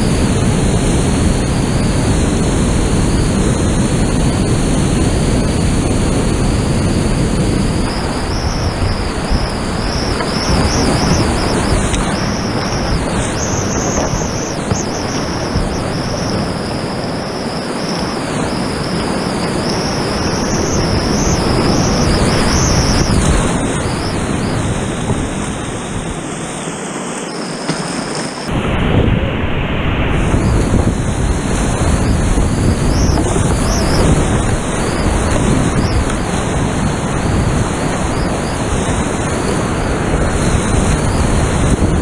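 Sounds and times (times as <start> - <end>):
whitewater rapids roaring: 0.0 - 42.0.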